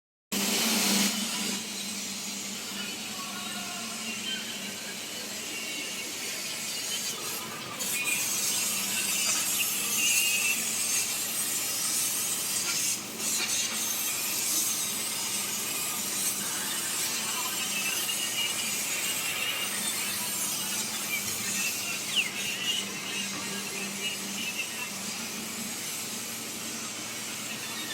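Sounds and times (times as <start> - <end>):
laser cutter hissing: 0.4 - 27.9.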